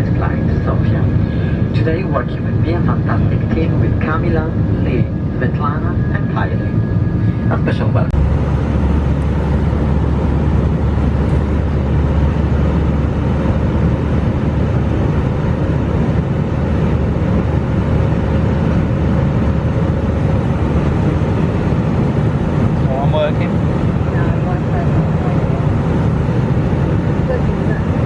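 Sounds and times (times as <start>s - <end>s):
airplane cabin rumble and air rush: 0.0s - 28.0s.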